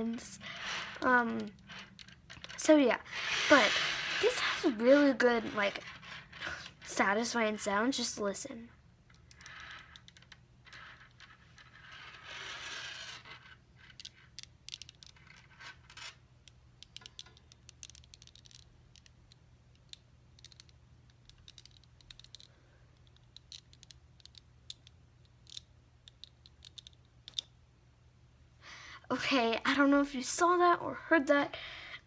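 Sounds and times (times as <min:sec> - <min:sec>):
magnetic balls clicking: 0:00.0 - 0:08.3, 0:09.0 - 0:27.6
magnetic balls scraping and rolling: 0:00.0 - 0:27.5.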